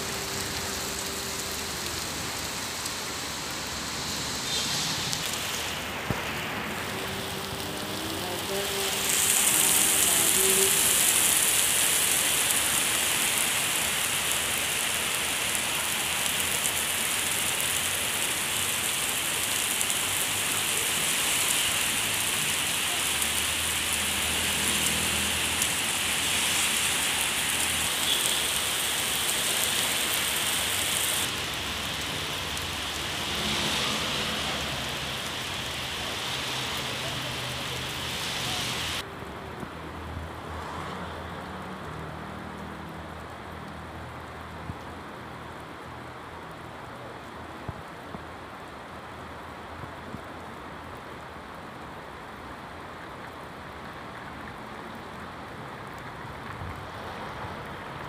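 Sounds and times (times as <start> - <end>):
heavy rain on asphalt: 0.0 - 58.0.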